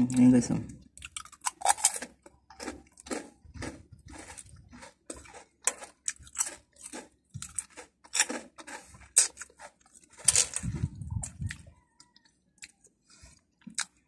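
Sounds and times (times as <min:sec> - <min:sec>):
person chewing crunchy snack: 0:00.1 - 0:14.0.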